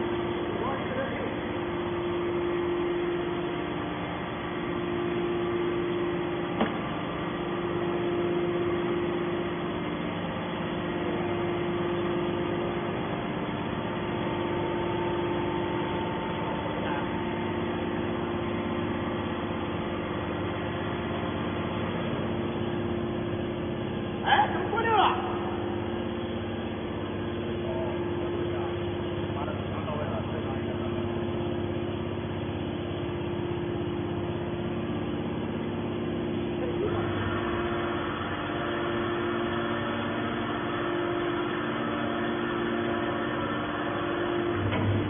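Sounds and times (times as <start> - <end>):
electric motor and pump humming: 0.0 - 45.0.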